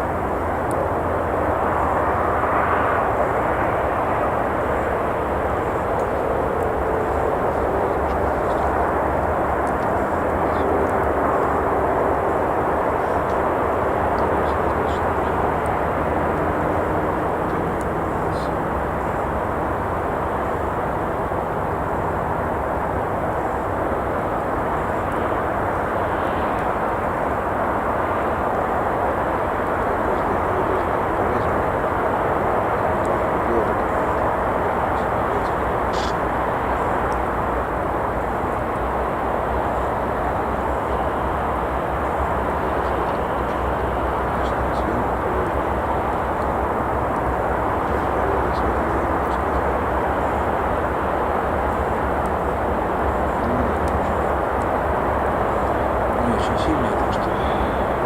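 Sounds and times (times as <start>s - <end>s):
road traffic rushing: 0.0s - 58.0s.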